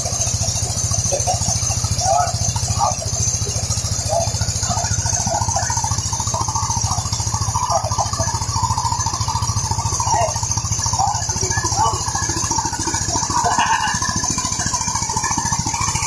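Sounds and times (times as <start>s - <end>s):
milling machinery hiss: 0.0s - 16.0s
rice mill engine running: 0.0s - 16.0s.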